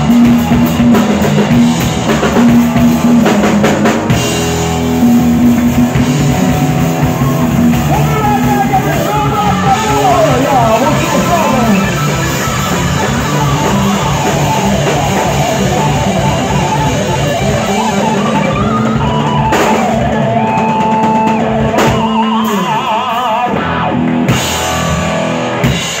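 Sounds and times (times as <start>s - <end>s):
electric guitar solo: 0.0s - 25.8s
bass guitar: 0.0s - 26.0s
drum kit: 0.0s - 26.0s.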